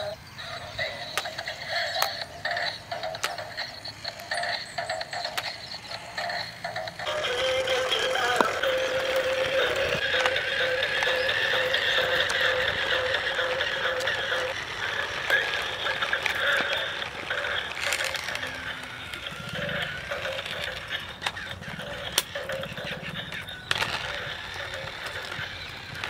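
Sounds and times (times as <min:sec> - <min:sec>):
plastic wheels rattling: 0:00.0 - 0:26.0
toy motor and gears whirring: 0:00.0 - 0:26.0.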